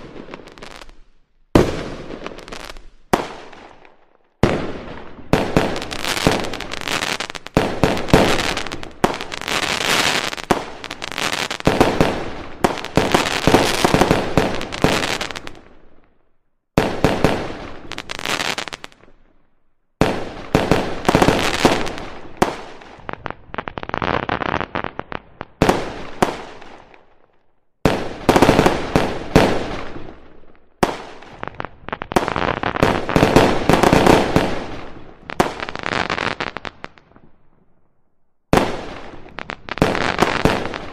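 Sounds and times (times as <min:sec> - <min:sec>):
fireworks bangs and crackles: 0:00.0 - 0:19.4, 0:20.0 - 0:40.9.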